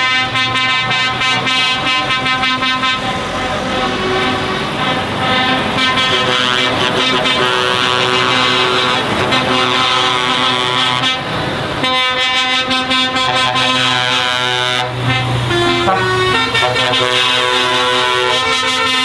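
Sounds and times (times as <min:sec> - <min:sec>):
passing lorries: 0:00.0 - 0:19.0
truck air horns blasting: 0:00.0 - 0:19.0.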